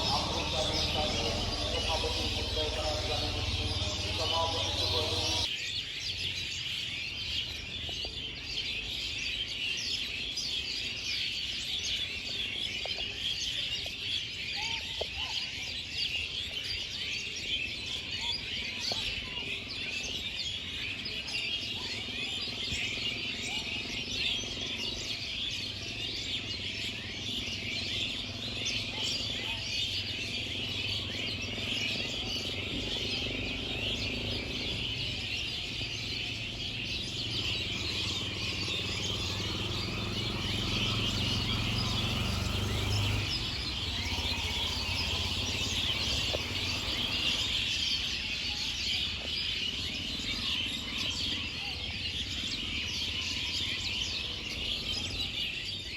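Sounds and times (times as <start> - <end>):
birds chirping in chorus: 0.0 - 55.9.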